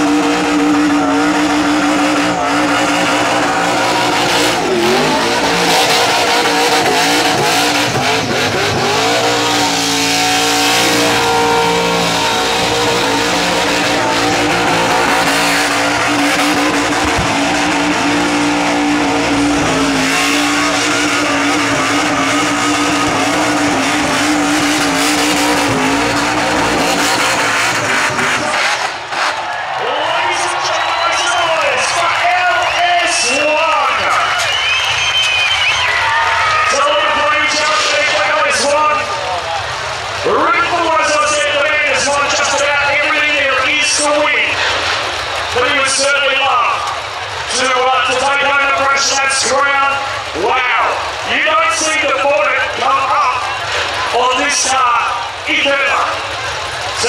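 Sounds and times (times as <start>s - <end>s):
car engine at high revs: 0.0s - 57.0s
tyres spinning and squealing: 0.0s - 57.0s.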